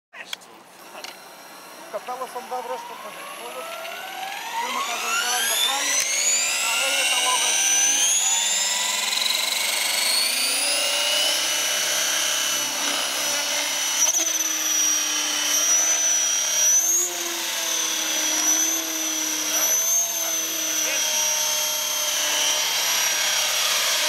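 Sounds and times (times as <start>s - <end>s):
electric helicopter motor whine: 0.6s - 24.0s
helicopter rotor noise: 0.7s - 24.0s.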